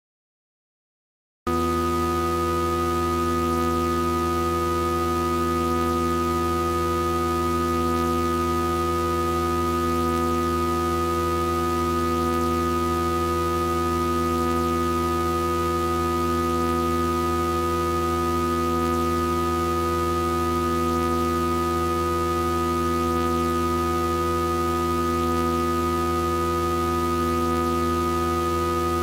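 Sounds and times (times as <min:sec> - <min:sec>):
steady sine tones: 0:01.5 - 0:29.0.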